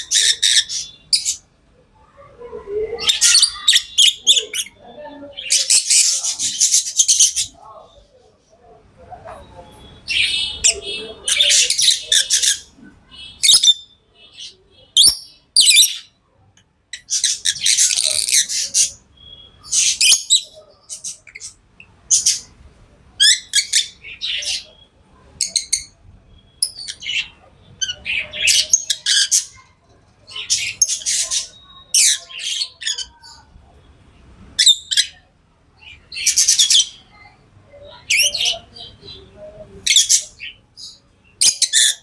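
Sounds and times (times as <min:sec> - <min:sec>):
lovebirds chirping and squawking: 0:00.0 - 0:16.2, 0:16.9 - 0:33.8, 0:34.4 - 0:42.0.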